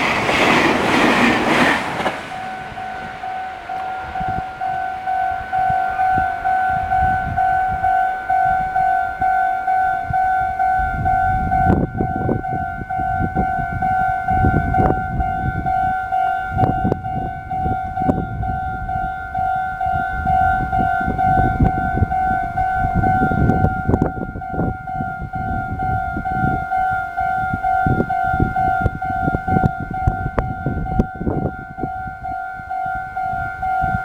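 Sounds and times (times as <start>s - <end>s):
train passing with clattering: 0.0s - 34.0s
level crossing warning bell: 1.9s - 34.0s.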